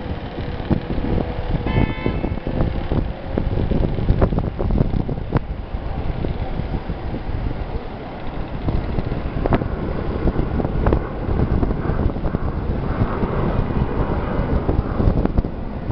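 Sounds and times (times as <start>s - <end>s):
wind buffeting microphone: 0.0s - 15.9s.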